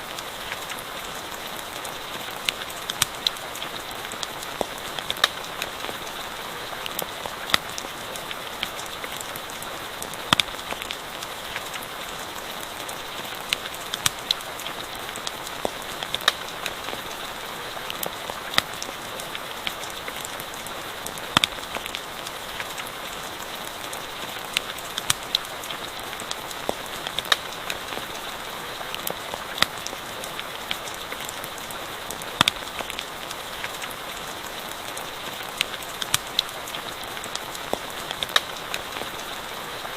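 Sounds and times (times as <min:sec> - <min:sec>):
campfire popping and crackling: 0:00.0 - 0:39.9
rain falling: 0:00.0 - 0:39.9.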